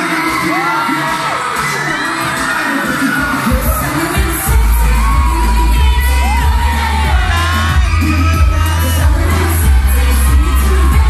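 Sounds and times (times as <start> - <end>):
crowd screaming and cheering: 0.0 - 11.0
loud amplified pop music: 0.0 - 11.0.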